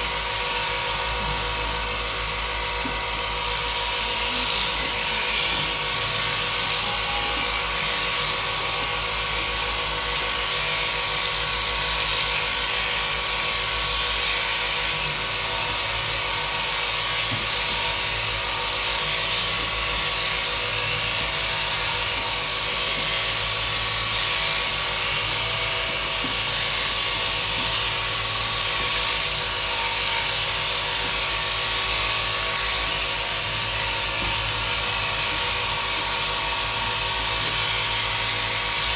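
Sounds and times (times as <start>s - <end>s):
shearing handpiece running: 0.0s - 38.9s.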